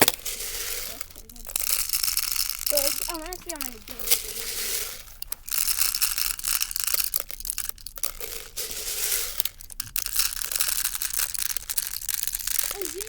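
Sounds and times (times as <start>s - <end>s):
pellets hitting plastic bottles: 0.0s - 13.0s.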